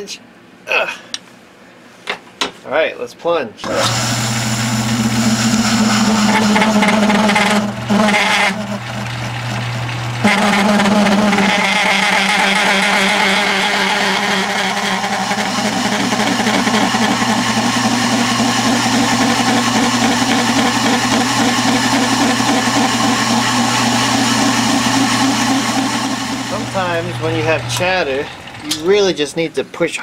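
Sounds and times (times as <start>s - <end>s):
lathe motor hum: 3.7s - 29.4s.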